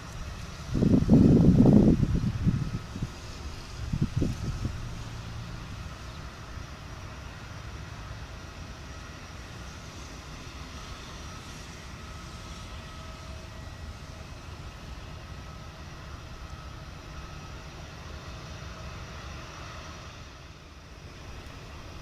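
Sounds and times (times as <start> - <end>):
turboprop engines droning: 0.0 - 22.0.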